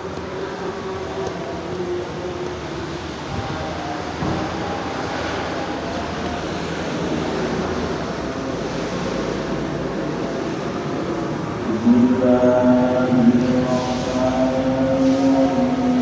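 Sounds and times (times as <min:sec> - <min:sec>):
heavy rain: 0:00.2 - 0:16.0.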